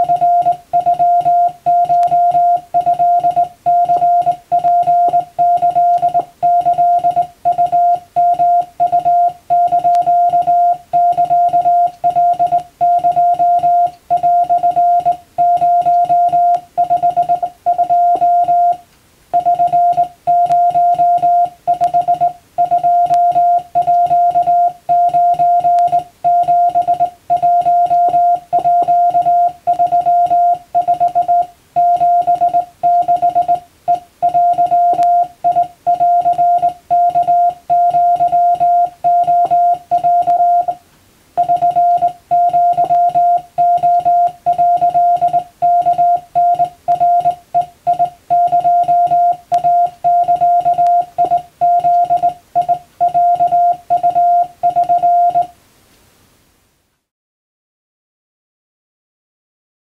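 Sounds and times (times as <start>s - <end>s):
morse code tone: 0.0s - 18.8s, 19.4s - 40.8s, 41.4s - 55.5s.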